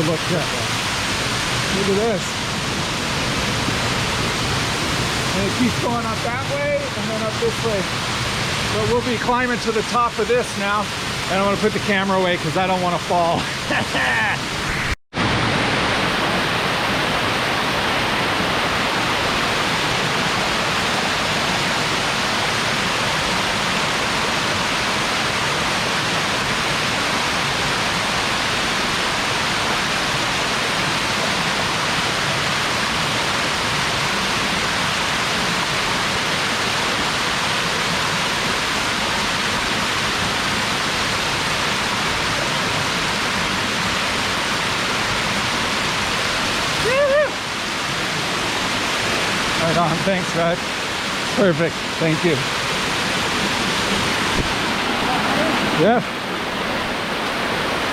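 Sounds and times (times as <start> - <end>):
waterfall rushing water: 0.0 - 57.9.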